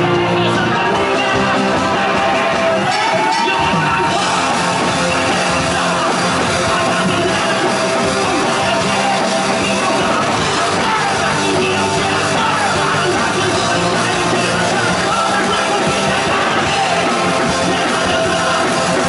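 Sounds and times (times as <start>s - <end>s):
people singing into microphones: 0.0s - 19.0s
rock band playing live: 0.0s - 19.0s.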